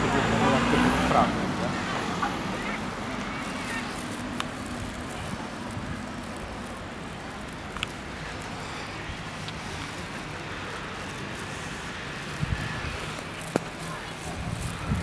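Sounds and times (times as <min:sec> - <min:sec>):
distant traffic: 0:00.0 - 0:15.0
wind: 0:00.0 - 0:15.0.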